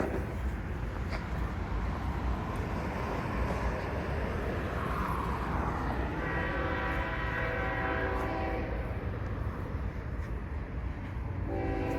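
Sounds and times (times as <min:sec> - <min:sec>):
freight train diesel locomotives rumbling: 0:00.0 - 0:11.9.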